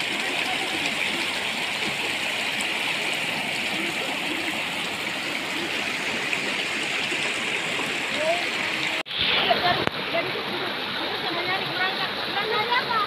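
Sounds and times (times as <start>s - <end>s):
water rushing over stones: 0.0s - 13.0s.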